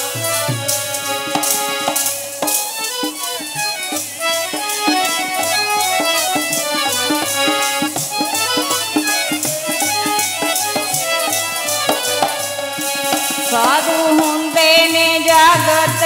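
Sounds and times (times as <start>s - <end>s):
harmonium melody: 0.0s - 16.0s.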